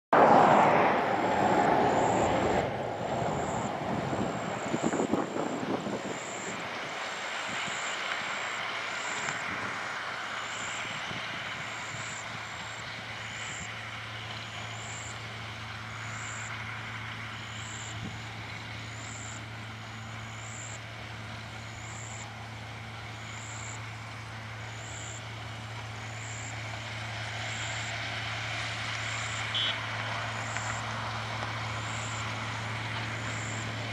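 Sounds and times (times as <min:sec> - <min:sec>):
harvester engine drone: 0:00.1 - 0:33.9
loud noisy machinery rush: 0:00.2 - 0:33.9.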